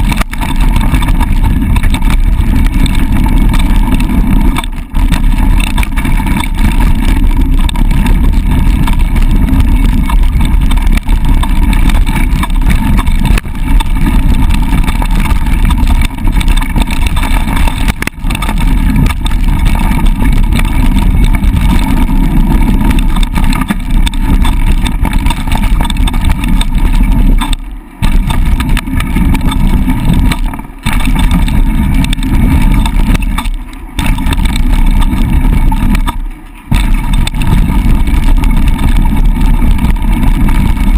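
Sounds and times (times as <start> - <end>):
bike ride rumble: 0.0 - 40.9
wind buffeting microphone: 0.0 - 40.9.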